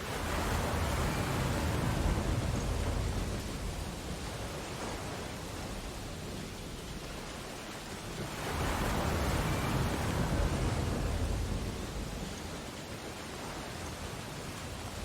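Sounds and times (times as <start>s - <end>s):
ocean waves: 0.0s - 15.0s.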